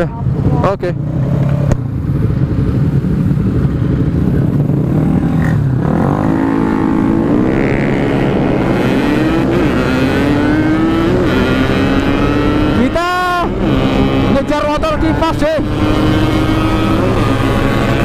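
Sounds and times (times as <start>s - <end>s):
two-stroke motorcycle engine revving: 3.5s - 18.0s.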